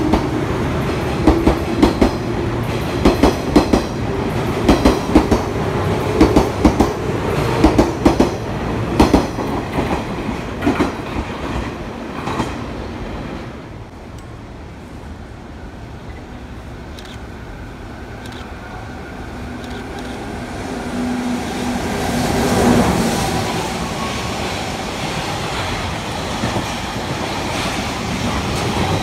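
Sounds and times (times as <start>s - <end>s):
electric locomotive passing: 0.0s - 29.0s.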